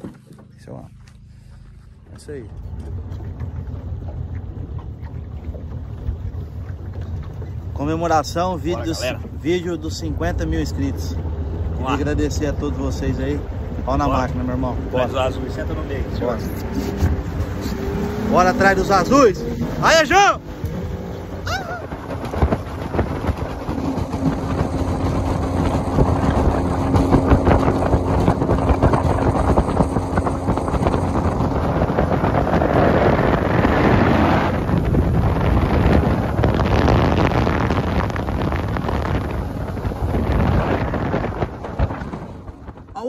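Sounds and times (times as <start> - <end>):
motorboat engine drone: 0.0 - 43.0
wind buffeting microphone: 0.0 - 43.0.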